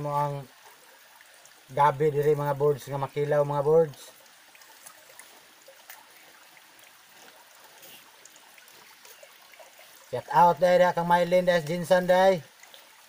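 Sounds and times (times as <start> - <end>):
small stream trickling: 0.0 - 13.0.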